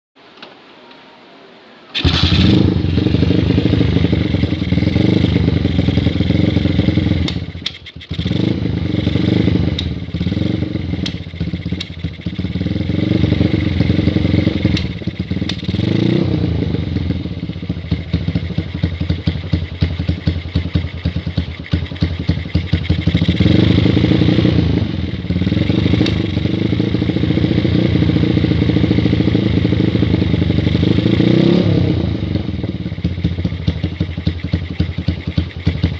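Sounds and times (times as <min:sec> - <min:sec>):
motorcycle engine revving: 0:02.0 - 0:35.9.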